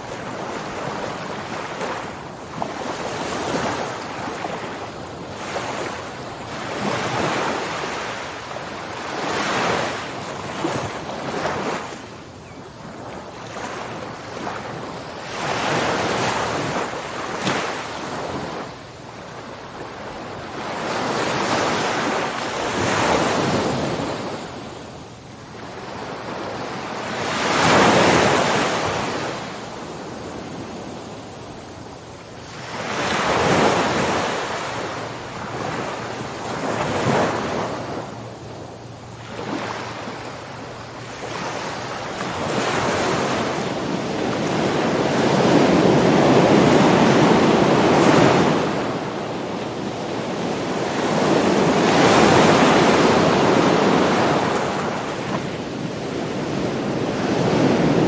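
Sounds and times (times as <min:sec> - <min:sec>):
ocean waves surging onto shore: 0:00.0 - 0:58.0.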